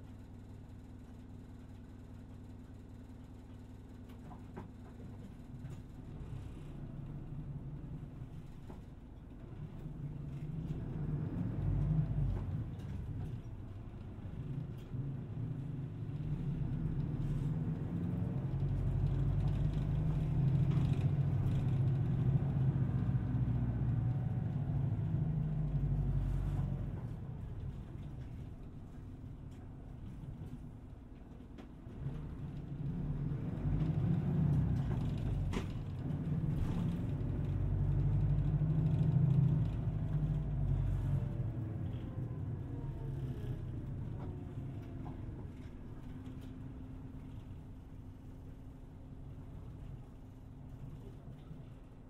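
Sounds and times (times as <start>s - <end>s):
bus engine: 0.0s - 52.0s
road noise inside bus: 0.0s - 52.0s.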